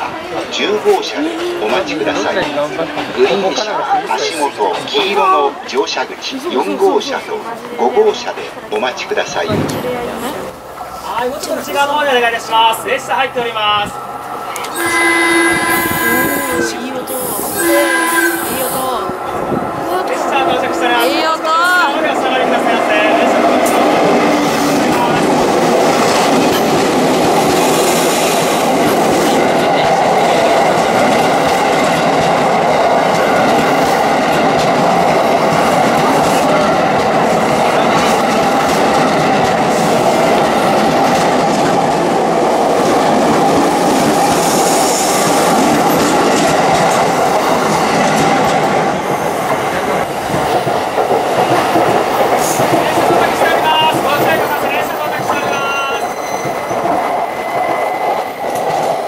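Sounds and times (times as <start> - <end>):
electric train passing: 0.0 - 59.0.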